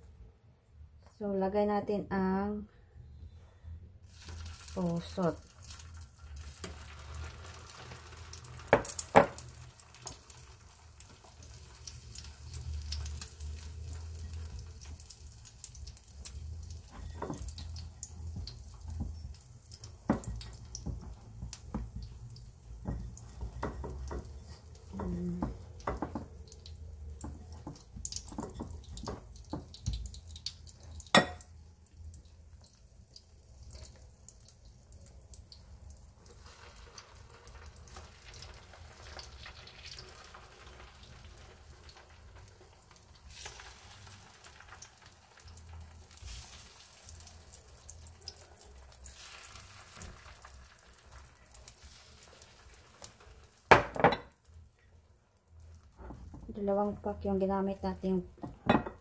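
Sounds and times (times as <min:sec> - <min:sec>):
food sizzling in oil: 0:04.0 - 0:54.6.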